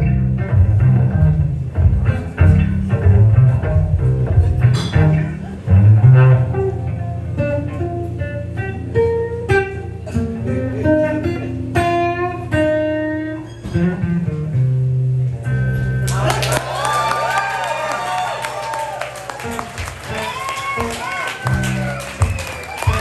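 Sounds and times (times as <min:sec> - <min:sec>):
electric blues guitar: 0:00.0 - 0:17.0, 0:18.3 - 0:23.0.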